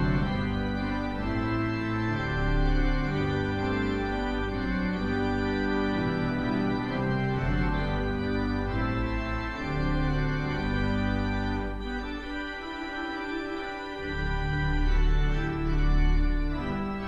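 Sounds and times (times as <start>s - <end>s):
pipe organ chords: 0.0s - 17.0s.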